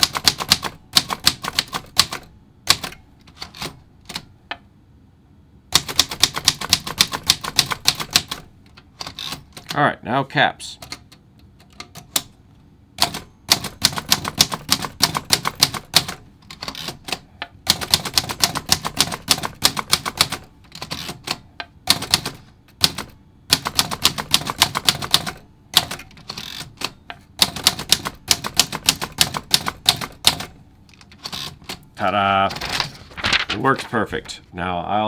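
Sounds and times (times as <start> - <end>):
typewriter typing: 0.0 - 4.3, 5.7 - 9.8, 10.8 - 12.4, 13.0 - 34.5.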